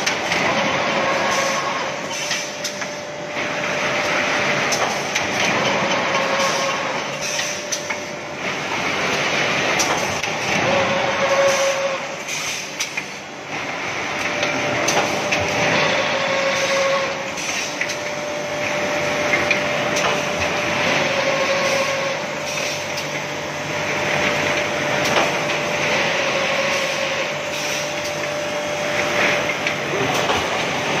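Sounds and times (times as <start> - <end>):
machine whirring: 0.0 - 31.0.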